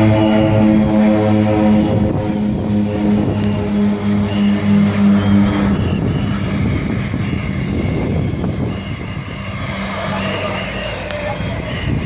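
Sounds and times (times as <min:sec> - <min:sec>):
airplane engines rumbling: 0:00.0 - 0:12.0.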